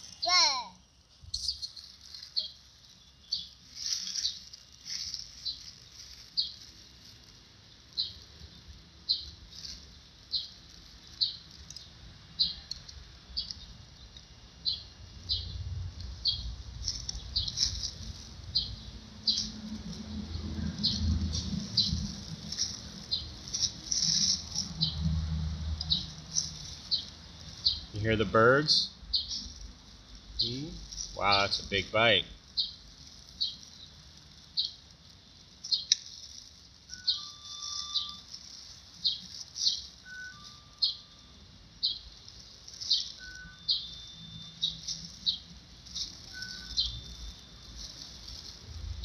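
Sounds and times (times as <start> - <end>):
bird chirping: 1.2 - 7.1, 7.8 - 15.6, 16.2 - 48.5.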